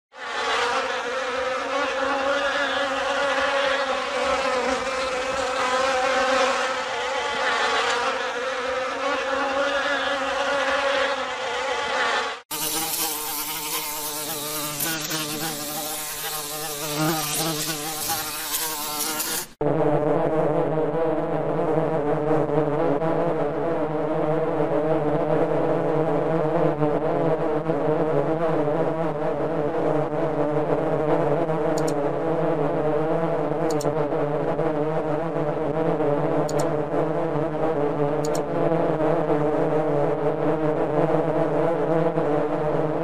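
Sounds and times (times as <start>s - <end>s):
bee buzzing in flight: 0.2s - 43.0s.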